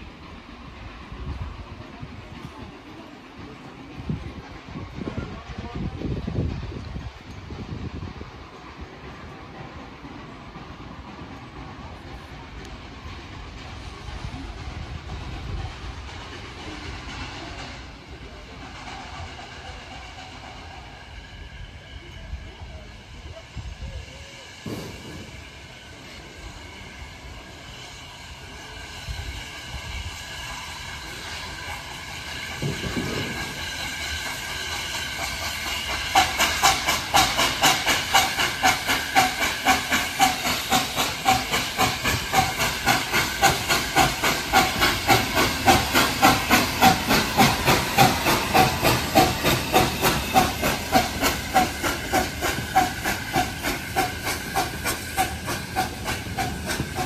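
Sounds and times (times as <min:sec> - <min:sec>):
steady locomotive beat: 0:00.0 - 0:23.8, 0:24.5 - 0:57.0
steam hiss: 0:00.0 - 0:57.0
steam locomotive running past: 0:00.0 - 0:57.0.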